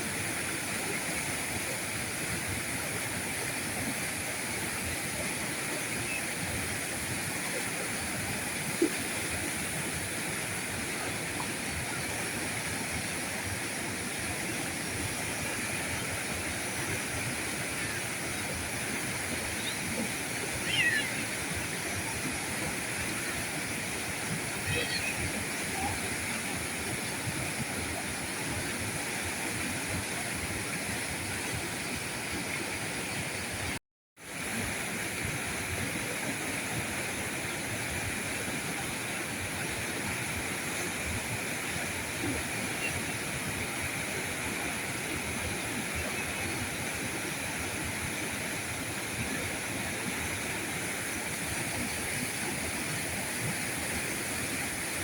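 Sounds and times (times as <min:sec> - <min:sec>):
river current rushing: 0:00.0 - 0:33.7, 0:34.3 - 0:55.0.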